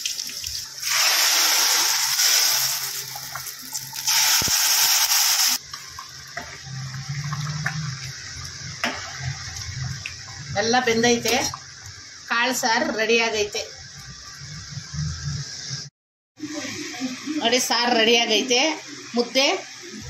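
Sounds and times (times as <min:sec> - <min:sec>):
hot oil sizzling in pot: 0:00.0 - 0:19.9.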